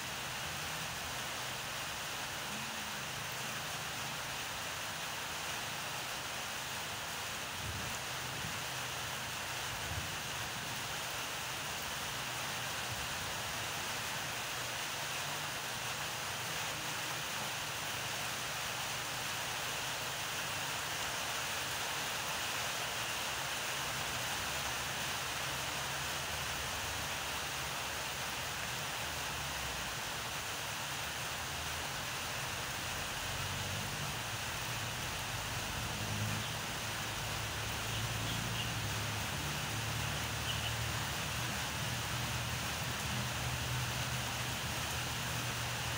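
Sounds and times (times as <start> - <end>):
outdoor background hiss: 0.0 - 45.9.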